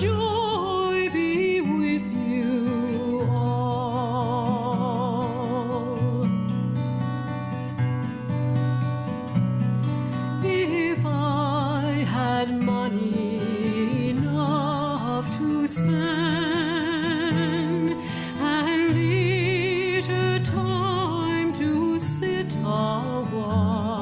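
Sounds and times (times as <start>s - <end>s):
person singing with vibrato: 0.0s - 6.4s, 10.4s - 24.0s
acoustic guitar: 0.0s - 24.0s.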